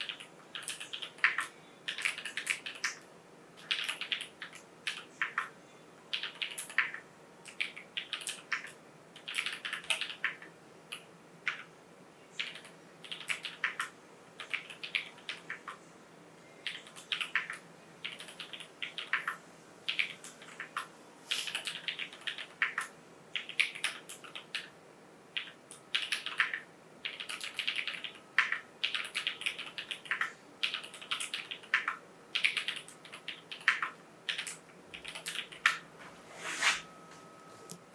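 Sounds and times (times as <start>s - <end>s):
mechanical keyboard typing: 0.0s - 3.0s, 3.6s - 5.5s, 6.1s - 11.7s, 12.4s - 15.8s, 16.6s - 20.9s, 21.5s - 24.7s, 25.4s - 35.8s.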